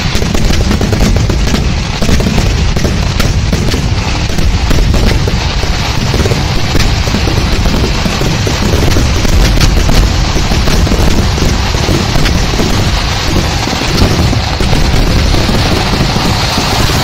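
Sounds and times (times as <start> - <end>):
fireworks exploding in a barrage: 0.0 - 17.0.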